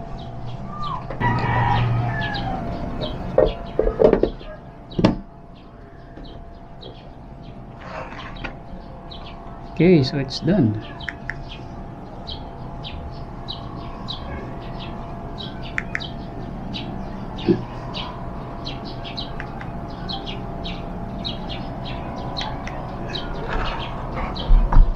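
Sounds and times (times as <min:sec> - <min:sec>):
small birds chirping: 0:00.0 - 0:24.6
faint hum: 0:00.0 - 0:24.9.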